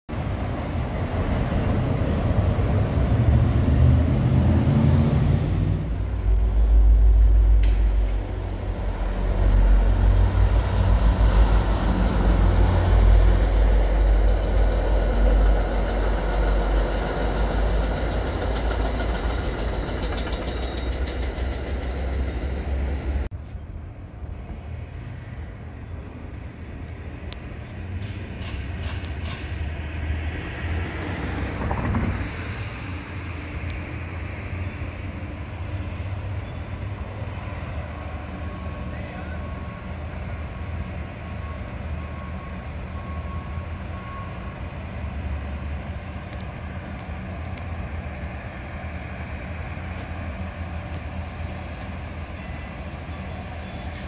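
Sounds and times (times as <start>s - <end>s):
train rumbling on elevated track: 0.1s - 54.0s.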